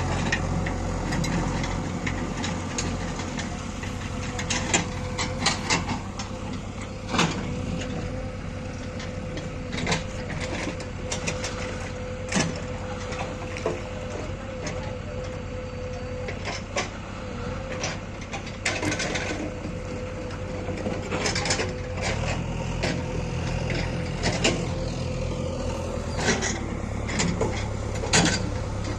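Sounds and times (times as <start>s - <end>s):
constant machine whine: 0.0s - 28.9s
heavy diesel machinery running: 0.0s - 28.9s.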